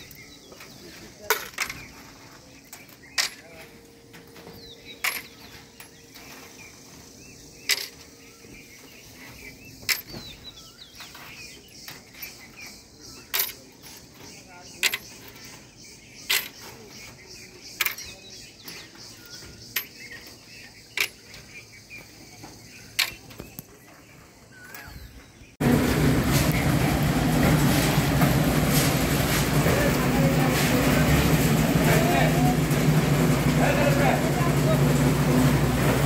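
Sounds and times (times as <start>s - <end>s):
birds chirping faintly: 0.0s - 36.0s.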